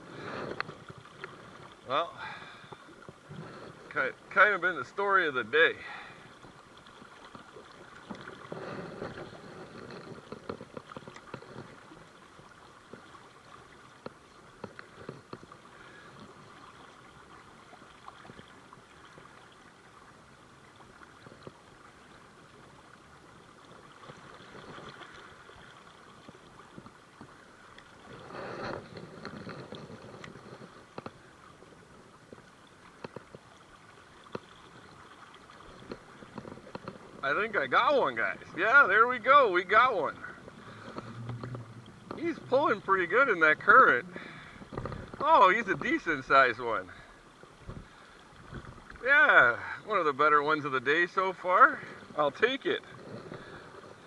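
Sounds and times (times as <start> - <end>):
river water rushing: 0.0 - 10.1, 10.8 - 53.9.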